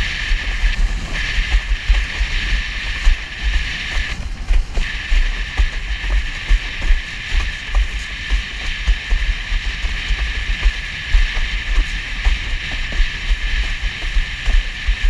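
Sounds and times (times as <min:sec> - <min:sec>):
water rushing and spray: 0:00.0 - 0:15.0
wind buffeting microphone: 0:00.0 - 0:15.0
hull knocking on waves: 0:00.3 - 0:15.0.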